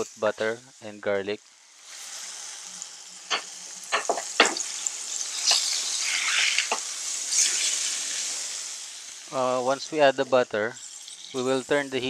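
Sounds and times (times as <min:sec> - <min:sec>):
steak sizzling in a hot pan: 0:01.4 - 0:10.0, 0:10.7 - 0:12.0.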